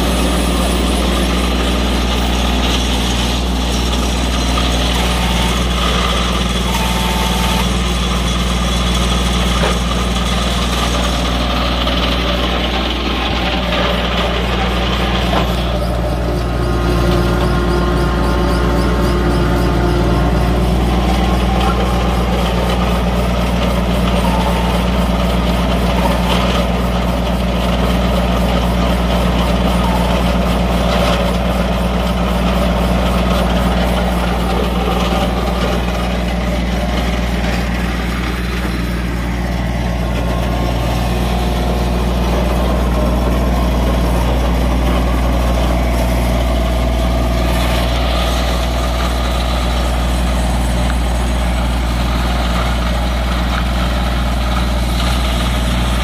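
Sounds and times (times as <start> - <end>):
turf aerator engine humming: 0.0 - 56.0.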